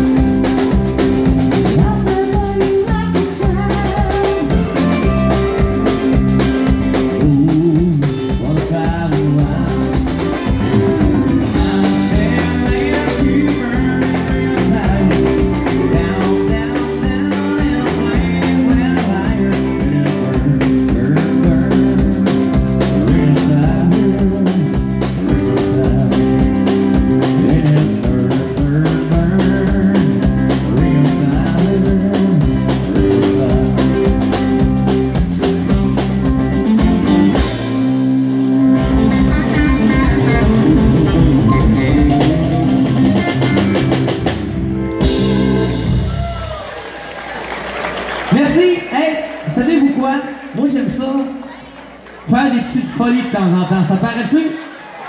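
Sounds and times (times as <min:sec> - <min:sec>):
keyboard: 0:00.0 - 0:46.4
pedal steel guitar: 0:00.0 - 0:46.6
drum kit beat: 0:00.0 - 0:49.0
electric bass: 0:00.0 - 0:50.1.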